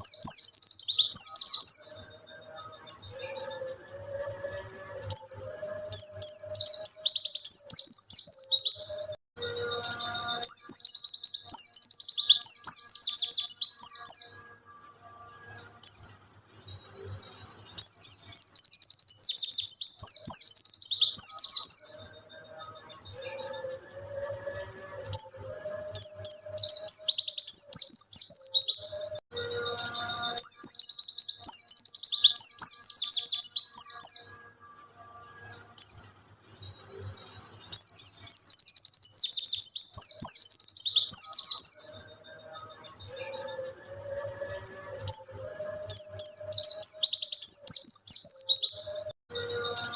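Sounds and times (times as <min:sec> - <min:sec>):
bird high twittering song: 0:00.0 - 0:49.9.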